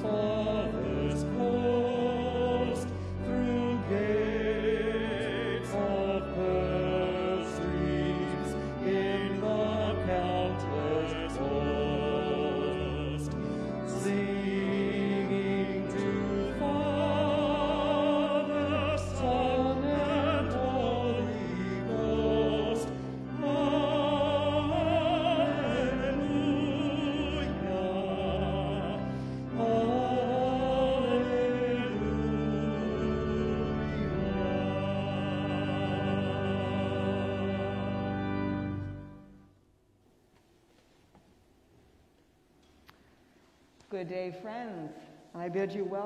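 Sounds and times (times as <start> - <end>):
sustained organ chords: 0.0 - 40.0.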